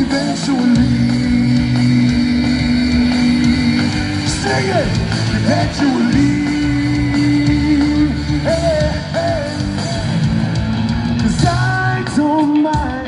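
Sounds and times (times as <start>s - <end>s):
live reggae rock band: 0.0s - 13.0s.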